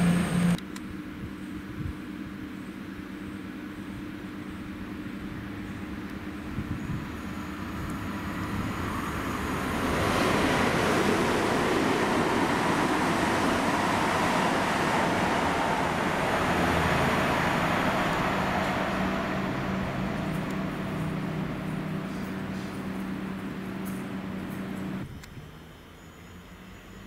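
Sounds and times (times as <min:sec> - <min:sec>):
wheel and rail noise: 0:00.0 - 0:00.6, 0:05.6 - 0:27.0
low diesel engine hum: 0:00.0 - 0:27.0.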